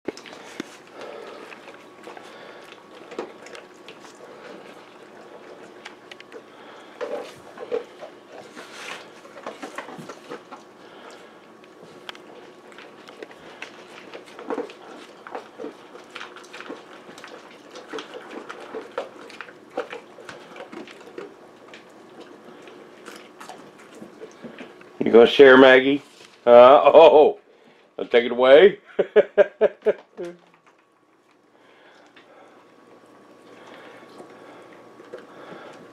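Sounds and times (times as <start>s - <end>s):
dog crunching dry kibble: 0.1s - 26.6s, 30.5s - 35.9s.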